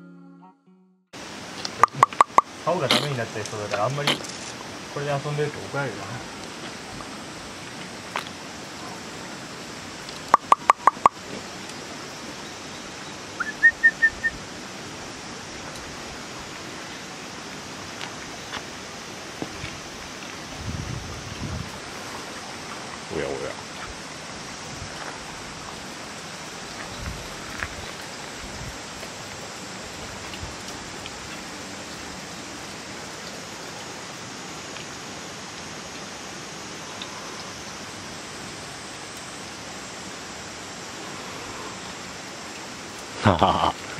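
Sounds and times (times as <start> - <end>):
steady background hiss: 1.2 - 43.9.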